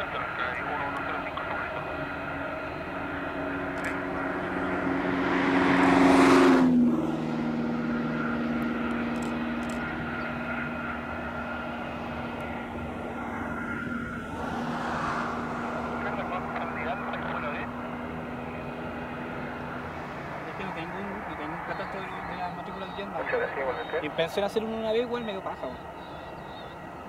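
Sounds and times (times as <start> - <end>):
jet engines humming and whining: 0.0 - 27.0
vehicle passing close: 0.0 - 27.0.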